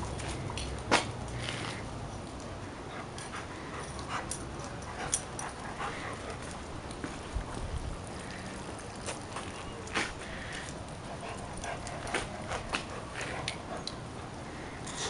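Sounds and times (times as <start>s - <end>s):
dog paws clicking and scuffing: 0.0s - 15.0s.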